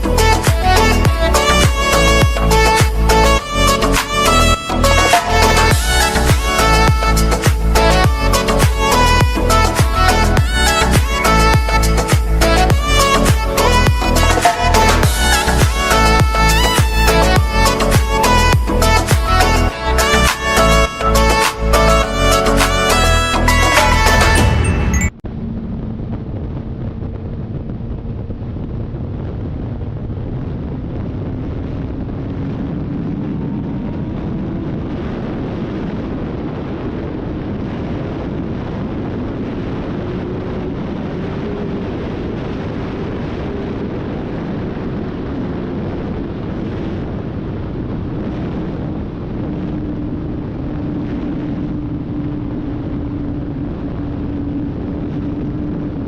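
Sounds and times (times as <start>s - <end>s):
motorcycle engine drone: 0.0s - 56.0s
wind rushing over microphone: 0.0s - 56.0s.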